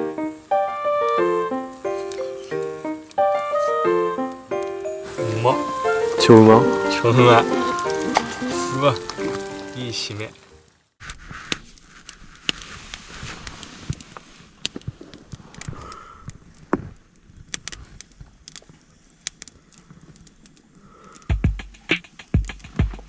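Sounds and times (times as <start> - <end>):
campfire crackling: 0.0 - 22.7
soft hiss: 0.0 - 22.8.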